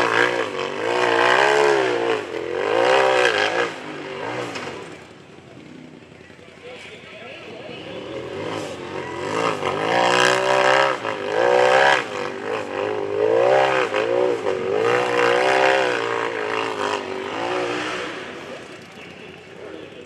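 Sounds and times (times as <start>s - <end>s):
buggy engine revving: 0.0s - 20.0s.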